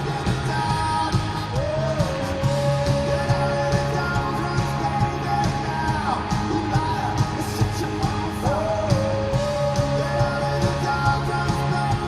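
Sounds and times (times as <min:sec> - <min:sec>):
guitars: 0:00.0 - 0:12.0.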